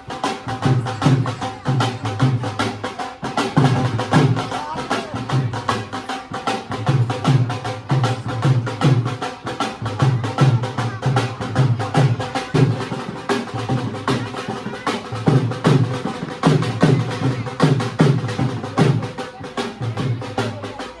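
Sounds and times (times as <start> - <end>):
music with fast drum beat: 0.0 - 21.0.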